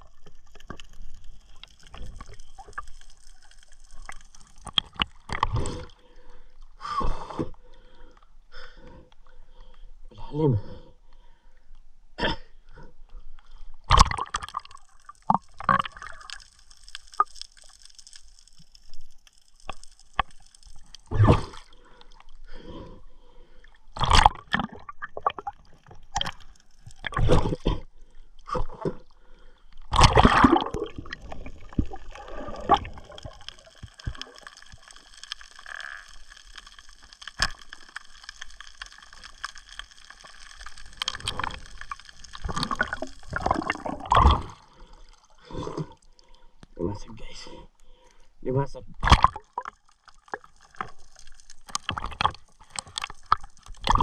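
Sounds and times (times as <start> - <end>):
water sloshing and gurgling: 0.0 - 9.8, 12.6 - 54.0.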